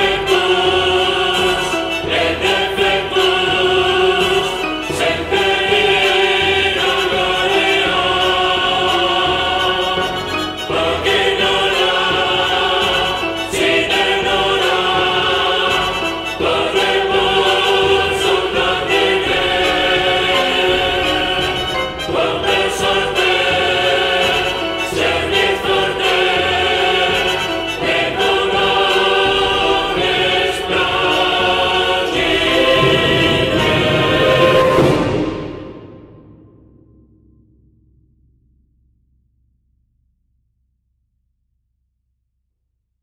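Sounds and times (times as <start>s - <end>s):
opera chorus singing: 0.0s - 36.4s.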